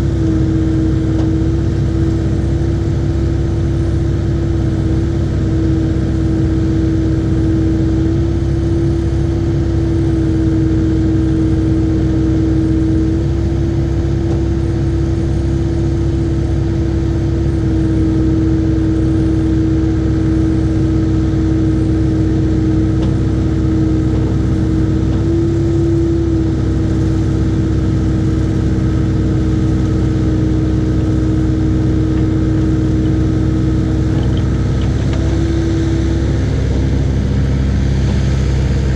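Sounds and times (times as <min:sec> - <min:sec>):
constant whine: 0:00.0 - 0:38.9
excavator diesel engine running: 0:00.0 - 0:38.9.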